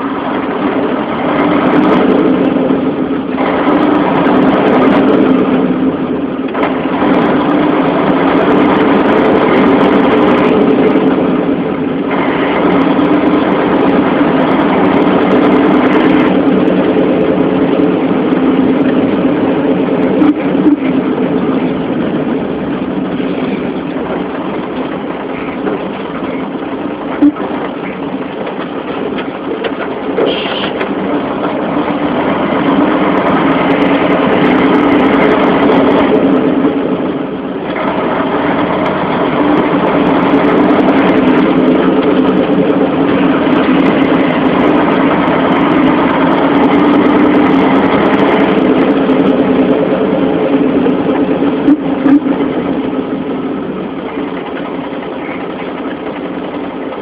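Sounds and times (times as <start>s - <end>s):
heavy vehicle engine running: 0.0s - 57.0s.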